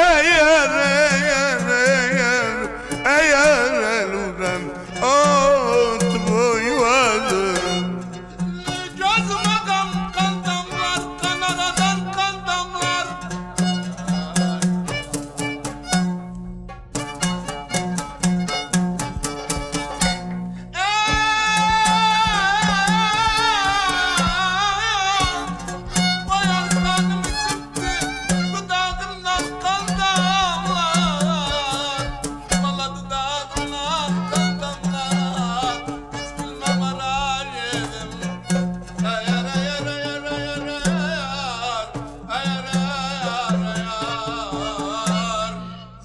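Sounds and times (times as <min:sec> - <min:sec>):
low drum beat: 0:05.2 - 0:20.4, 0:21.1 - 0:44.2.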